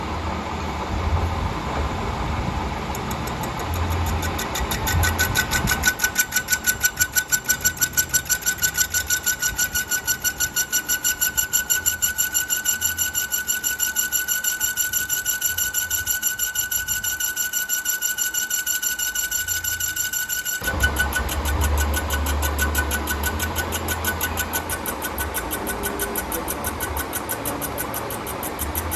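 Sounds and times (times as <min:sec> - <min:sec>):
lathe running with pulsing whine: 0:00.0 - 0:28.9.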